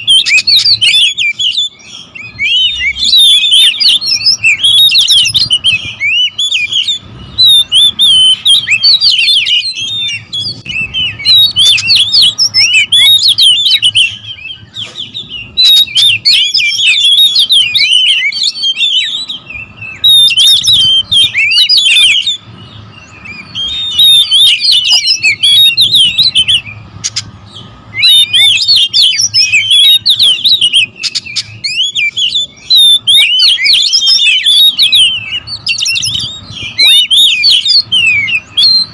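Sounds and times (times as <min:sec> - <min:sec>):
birds singing and chattering: 0:00.0 - 0:38.9.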